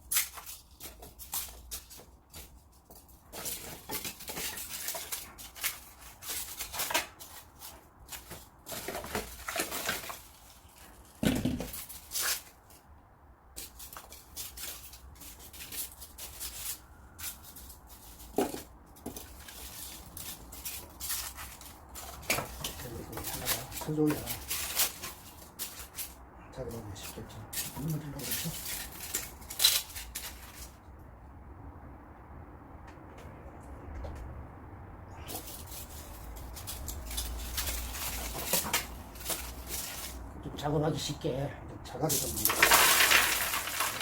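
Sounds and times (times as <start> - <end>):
knocks scrapes and rustles: 0.0 - 12.9, 13.5 - 31.0, 35.1 - 40.5, 42.1 - 44.0.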